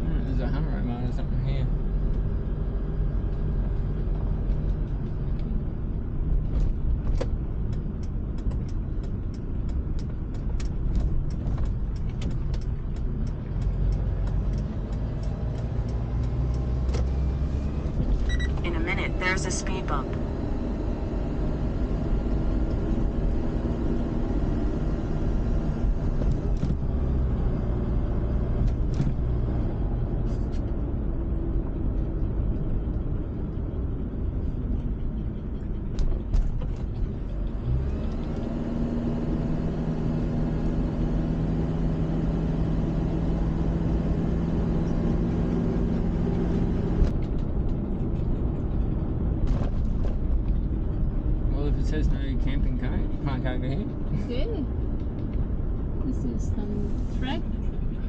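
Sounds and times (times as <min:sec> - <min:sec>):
car interior road rumble: 0:00.0 - 0:58.0
engine hum: 0:00.0 - 0:58.0.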